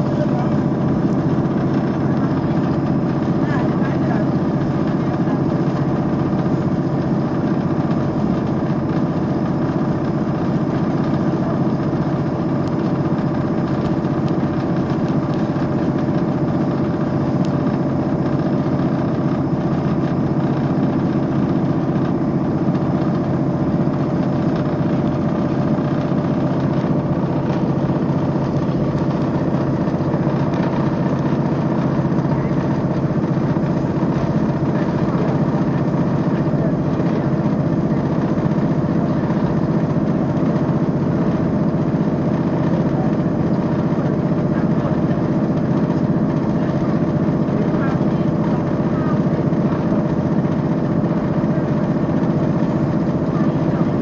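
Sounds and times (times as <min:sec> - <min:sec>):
faint engine hum: 0:00.0 - 0:54.0
train rumble inside carriage: 0:00.0 - 0:54.0.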